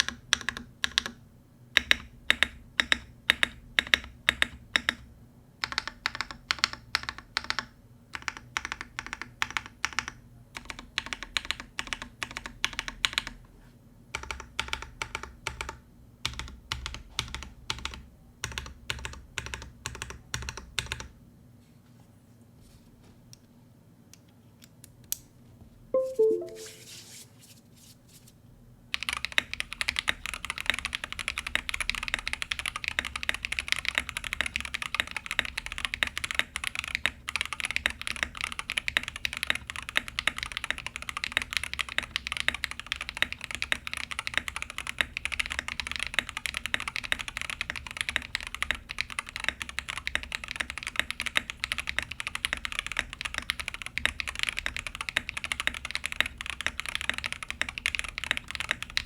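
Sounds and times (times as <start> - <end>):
mechanical keyboard typing: 0.0 - 1.2, 1.8 - 5.0, 5.6 - 13.4, 14.2 - 21.1, 29.0 - 59.0.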